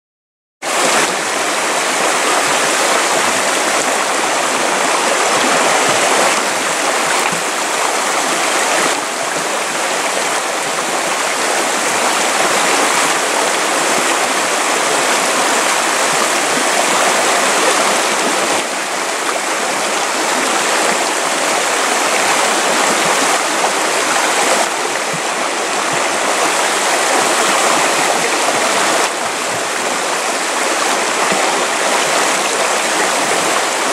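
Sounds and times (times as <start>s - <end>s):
stream rushing over stones: 0.6s - 33.9s.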